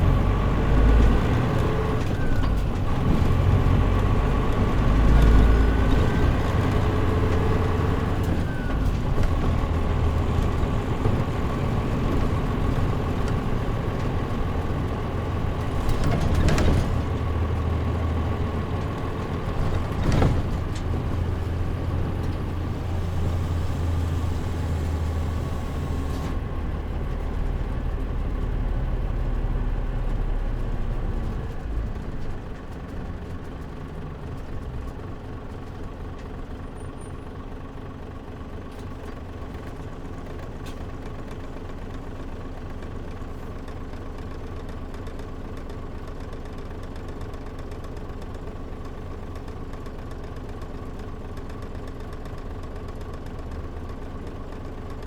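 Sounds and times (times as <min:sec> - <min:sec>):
diesel engine drone: 0:00.0 - 0:55.0
road and tyre noise: 0:00.0 - 0:55.0.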